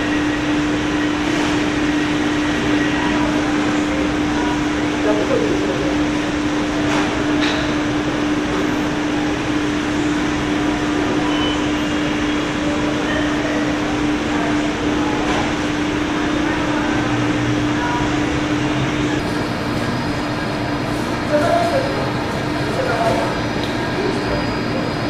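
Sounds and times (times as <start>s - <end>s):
mechanical hum with rushing noise: 0.0s - 25.0s.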